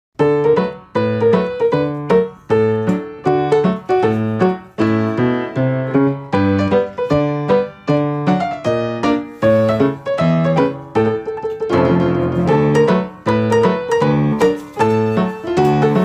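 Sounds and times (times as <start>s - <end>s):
lively piano tune: 0.2s - 16.0s.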